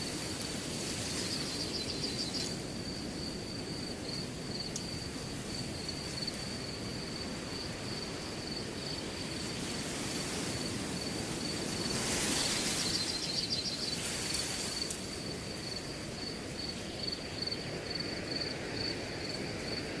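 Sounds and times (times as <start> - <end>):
crickets trilling: 0.0 - 20.0
wind blowing through grass: 0.0 - 20.0.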